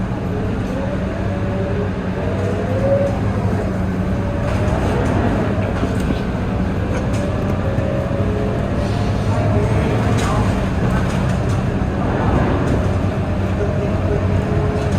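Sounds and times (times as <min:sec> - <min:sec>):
bus diesel drone: 0:00.0 - 0:14.9.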